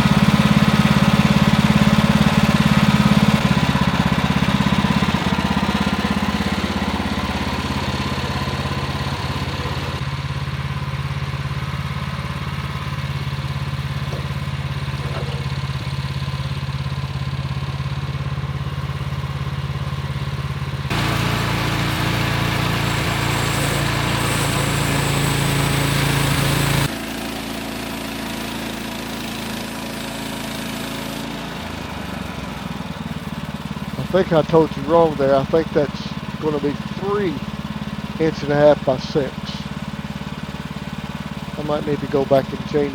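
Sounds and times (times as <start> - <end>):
small gas engine running: 0.0 - 42.9.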